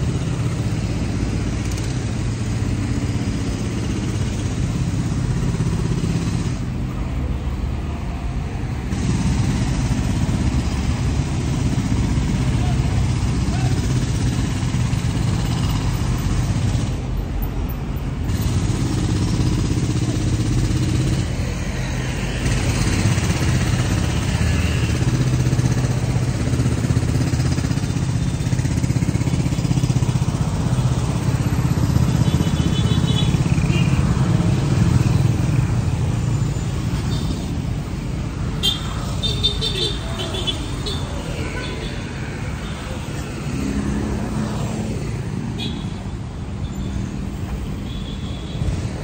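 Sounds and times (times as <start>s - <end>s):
road traffic passing: 0.0s - 49.0s.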